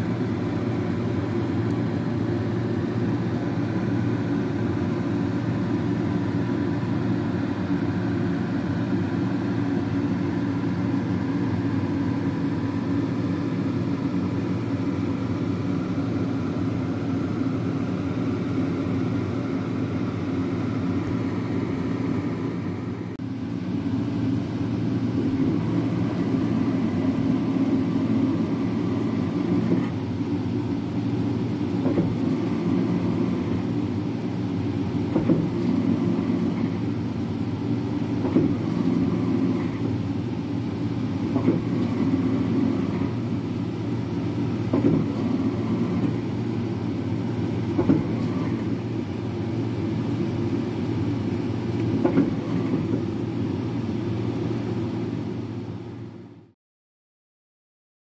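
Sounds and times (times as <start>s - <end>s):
machine motor hum: 0.0s - 56.5s.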